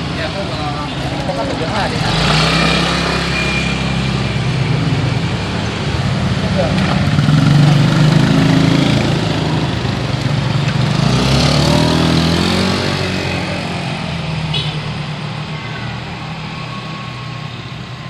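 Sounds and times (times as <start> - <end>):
cars and motorcycles passing: 0.0 - 18.0.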